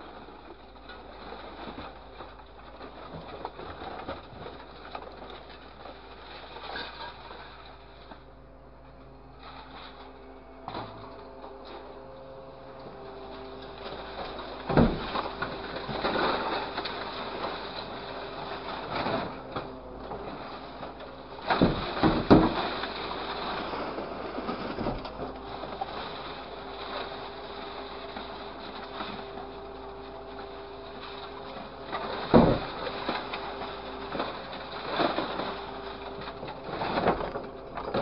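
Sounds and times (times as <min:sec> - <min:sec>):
scrap metal clattering and crashing: 0:00.0 - 0:08.2, 0:13.0 - 0:38.0
machine humming: 0:00.0 - 0:38.0.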